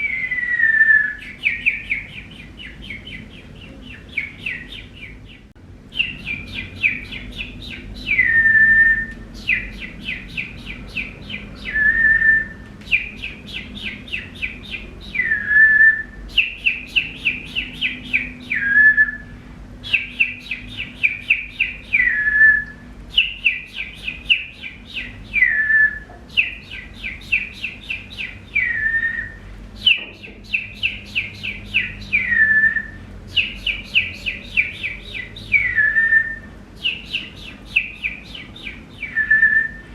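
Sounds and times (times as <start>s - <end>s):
bird-like whistled song: 0.0s - 5.4s, 6.0s - 39.9s.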